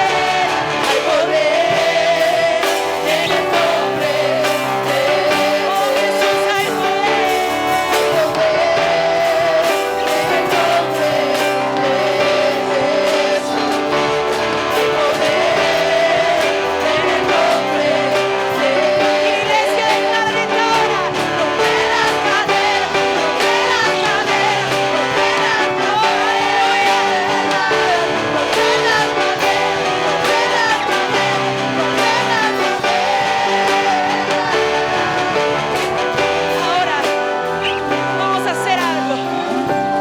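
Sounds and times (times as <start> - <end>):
people singing: 0.0 - 40.0
worship band with guitar: 0.0 - 40.0.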